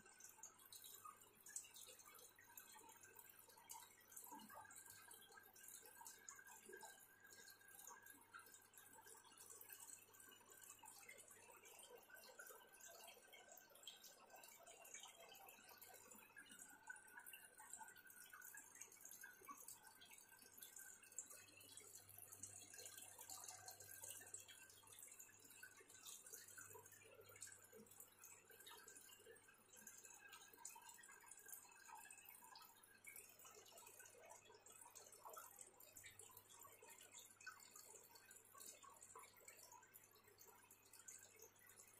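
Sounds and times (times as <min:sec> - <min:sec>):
water trickling and dripping: 0:00.0 - 0:41.9.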